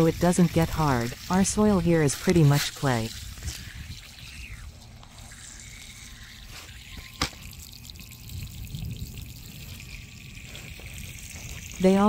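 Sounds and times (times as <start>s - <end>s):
water pouring onto soil: 0.0s - 12.0s.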